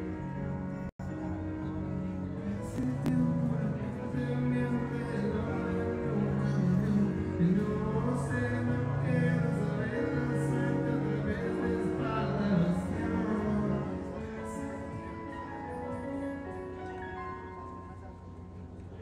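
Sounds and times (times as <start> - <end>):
live band music with singing: 1.4 - 18.5.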